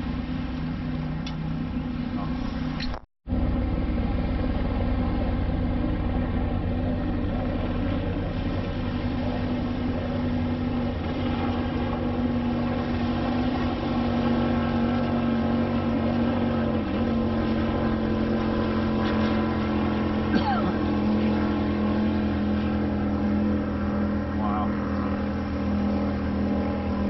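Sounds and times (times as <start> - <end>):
motor droning: 0.0 - 27.0.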